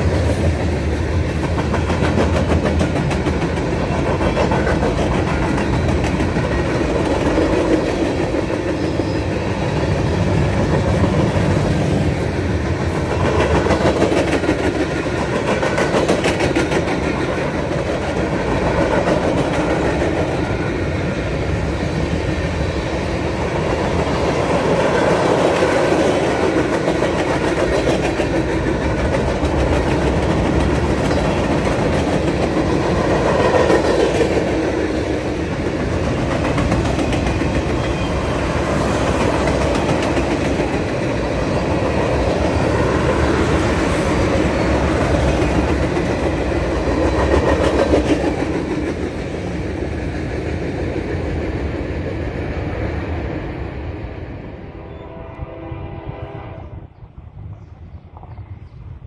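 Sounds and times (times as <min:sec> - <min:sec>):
steel wheels rumbling on rails: 0:00.0 - 0:58.7.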